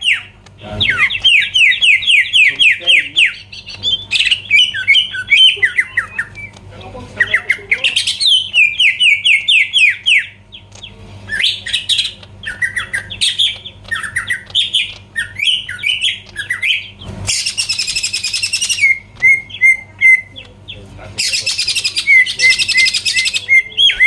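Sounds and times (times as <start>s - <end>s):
bird harsh chattering: 0.0s - 24.0s
bird singing whistled notes: 0.9s - 6.5s, 7.2s - 10.4s, 11.3s - 20.4s, 21.2s - 24.0s.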